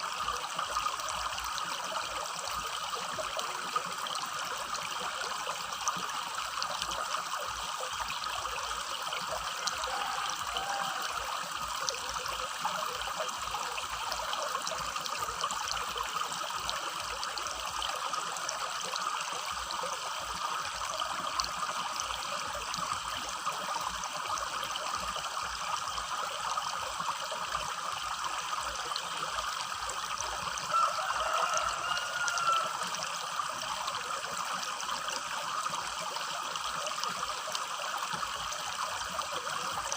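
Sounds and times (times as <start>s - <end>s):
river burbling over stones: 0.0s - 39.9s.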